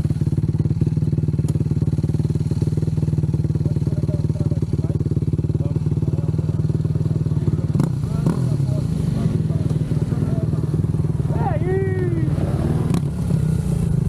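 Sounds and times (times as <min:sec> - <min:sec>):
atv engine running steadily: 0:00.0 - 0:14.0.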